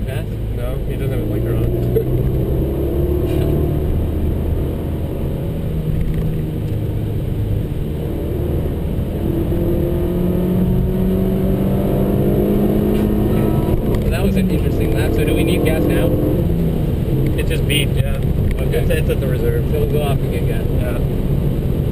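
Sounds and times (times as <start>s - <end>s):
car engine under load: 0.0s - 21.9s
road and tyre noise: 0.0s - 21.9s.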